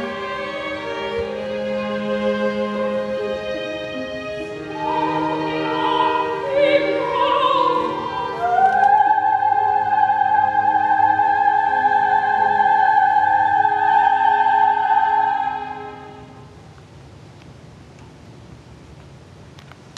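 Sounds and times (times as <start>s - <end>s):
opera singer singing: 0.0s - 16.2s.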